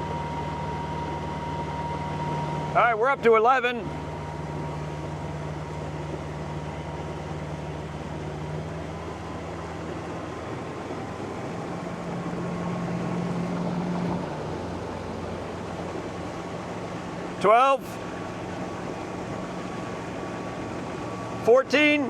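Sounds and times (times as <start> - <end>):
electric outboard motor humming: 0.0 - 22.0
water rushing past boat: 0.0 - 22.0.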